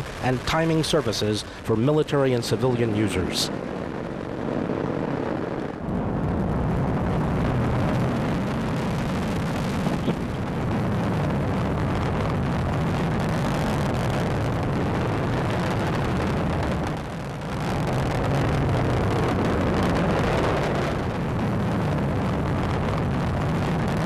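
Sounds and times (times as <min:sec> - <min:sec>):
rocket engine rumbling: 0:00.0 - 0:24.0.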